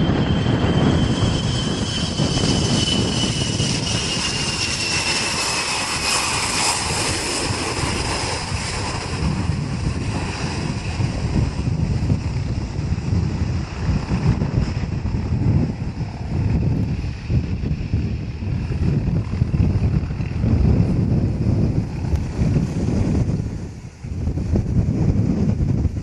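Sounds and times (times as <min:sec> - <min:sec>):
high turbine whine: 0:00.0 - 0:26.0
jet engine deep rumble: 0:00.0 - 0:26.0.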